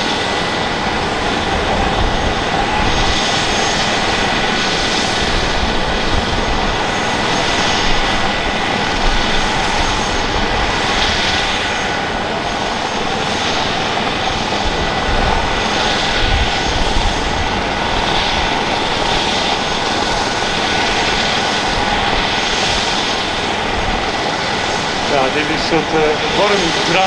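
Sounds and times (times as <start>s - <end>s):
helicopter rotor rumble: 0.0s - 27.0s
helicopter turbine whine: 0.0s - 27.0s.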